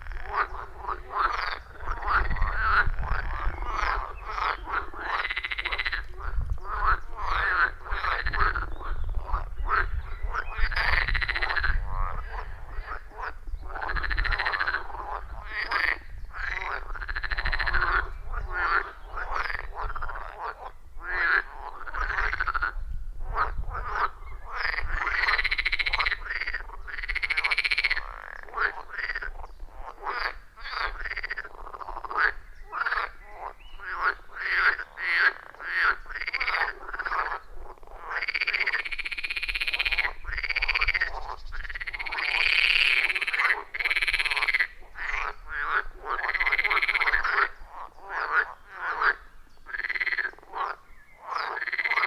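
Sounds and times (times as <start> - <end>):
frogs calling: 0.0 - 52.0.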